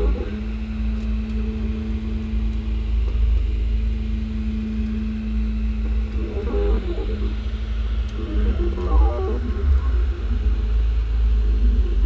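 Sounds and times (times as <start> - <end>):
low rumble: 0.0 - 12.0
stepper motors humming: 0.0 - 12.0.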